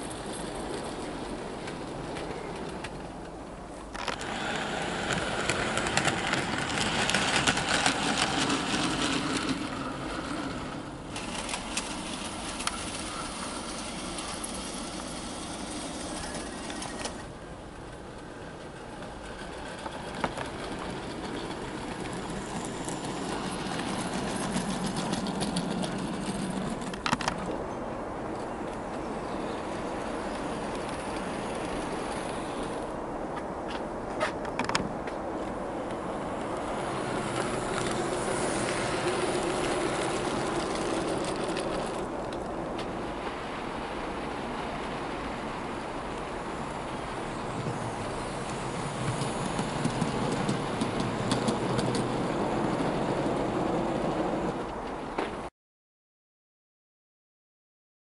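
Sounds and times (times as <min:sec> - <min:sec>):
wheels rolling on track: 0:00.0 - 0:55.5.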